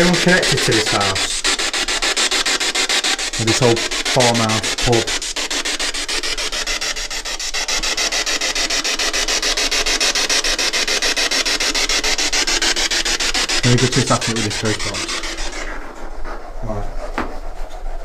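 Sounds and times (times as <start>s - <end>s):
pulsing radio static hiss: 0.0s - 1.7s, 3.1s - 15.9s.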